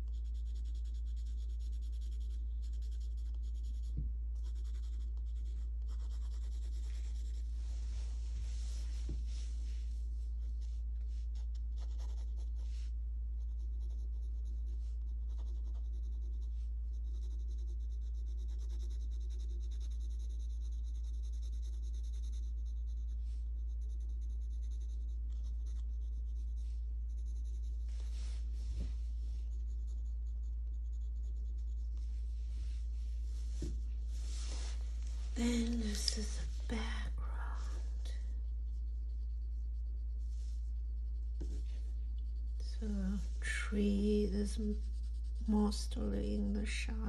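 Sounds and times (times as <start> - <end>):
pencil scratching on paper: 0.0 - 9.8, 10.4 - 47.0
steady low hum: 0.0 - 47.0.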